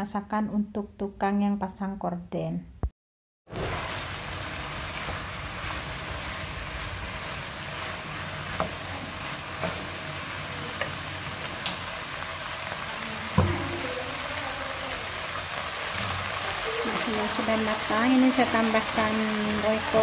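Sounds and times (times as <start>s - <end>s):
cabbage sizzling in a wok: 3.5s - 20.0s.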